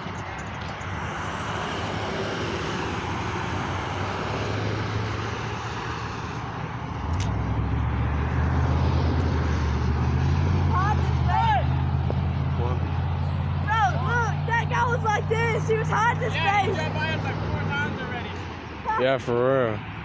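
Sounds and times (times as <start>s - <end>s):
approaching vehicle engine hum: 0.0s - 20.0s
highway traffic rushing: 0.0s - 20.0s.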